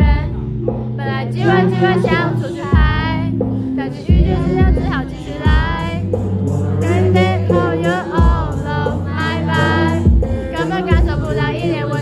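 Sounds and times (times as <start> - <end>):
man singing into a microphone: 0.0 - 2.9, 4.0 - 12.0
low accompaniment: 0.0 - 12.0.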